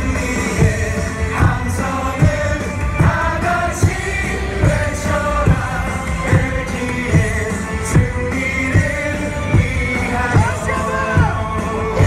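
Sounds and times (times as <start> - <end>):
cheer song over loudspeakers: 0.0 - 12.0
fans singing along: 0.0 - 12.0.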